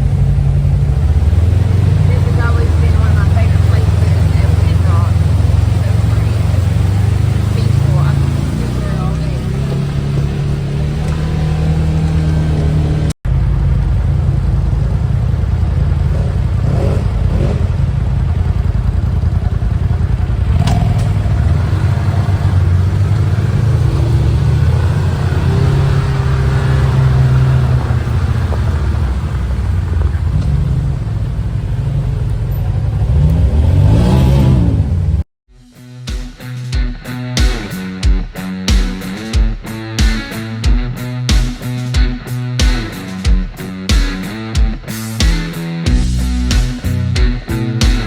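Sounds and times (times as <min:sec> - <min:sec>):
off-road vehicle engine running: 0:00.0 - 0:35.3, 0:36.7 - 0:48.0.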